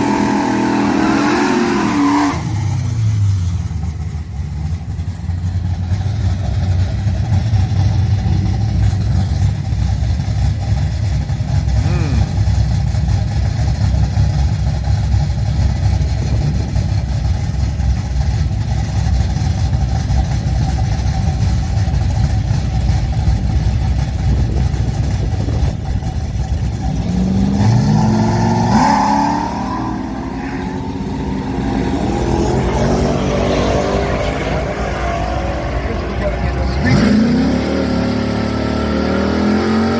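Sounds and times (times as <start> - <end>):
race car engine rumbling and revving: 0.0 - 39.9.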